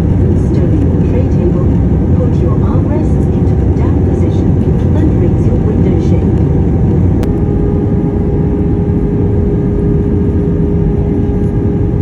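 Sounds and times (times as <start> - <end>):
airplane cabin roar: 0.0 - 12.0
steady hum: 0.0 - 12.0.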